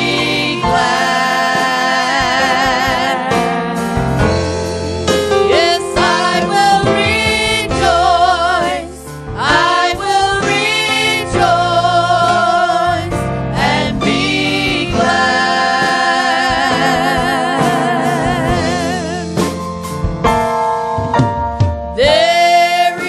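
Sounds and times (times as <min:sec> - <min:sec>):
choir singing gospel song: 0:00.0 - 0:19.6, 0:22.0 - 0:23.0.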